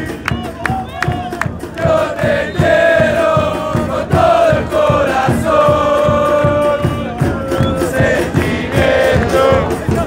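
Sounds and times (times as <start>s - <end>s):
crowd chanting: 0.0s - 10.0s
low drum beating: 0.0s - 10.0s.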